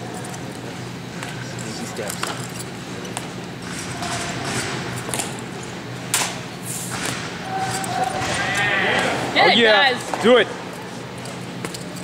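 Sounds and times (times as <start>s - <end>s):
low hum of hall: 0.0s - 12.0s.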